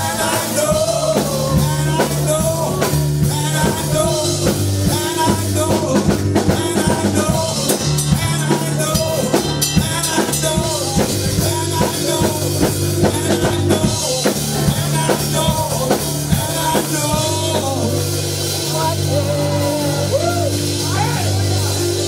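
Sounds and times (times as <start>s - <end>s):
drum kit playing a steady beat: 0.0s - 22.0s
person singing: 0.0s - 22.0s.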